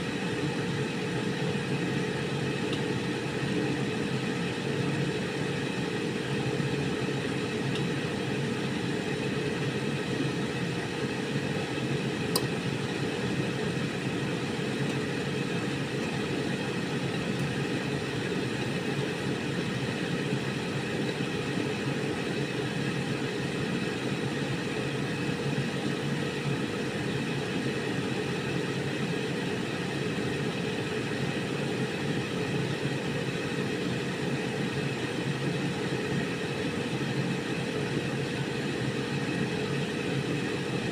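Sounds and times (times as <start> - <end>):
air fryer fan whirring: 0.0 - 40.9.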